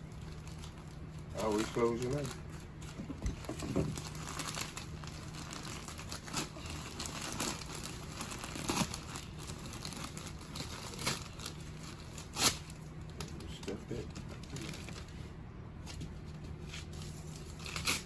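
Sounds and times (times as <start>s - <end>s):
insulation wrapping crinkling: 0.0s - 18.0s.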